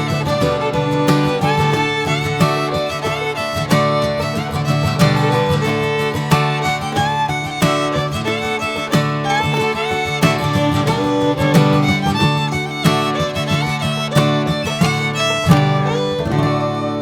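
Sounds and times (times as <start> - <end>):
fiddle and guitar bluegrass music: 0.0 - 17.0.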